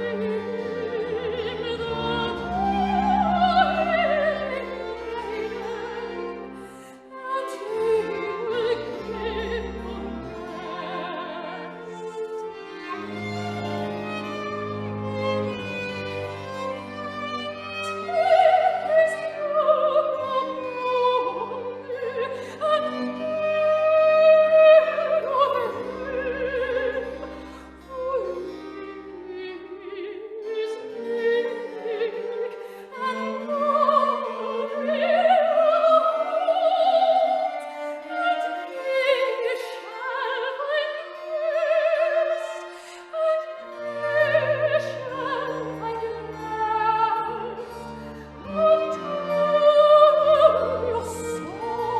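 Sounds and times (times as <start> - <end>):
orchestral accompaniment with strings: 0.0 - 51.9.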